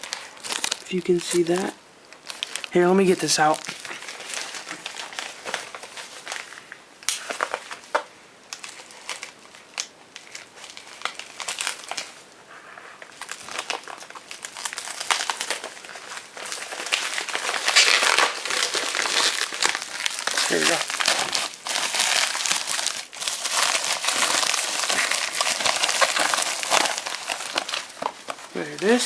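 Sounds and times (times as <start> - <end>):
packing material crinkling: 0.0 - 29.0.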